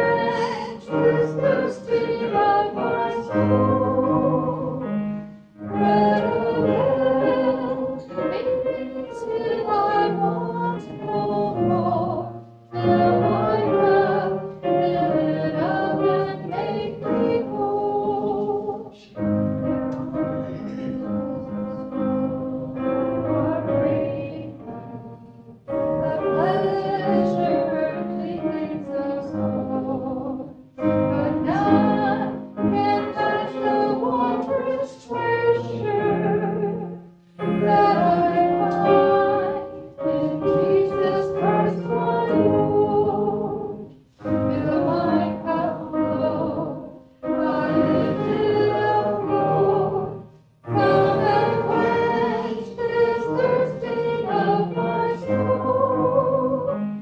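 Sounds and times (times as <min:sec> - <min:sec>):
voices singing a hymn: 0:00.0 - 0:57.0.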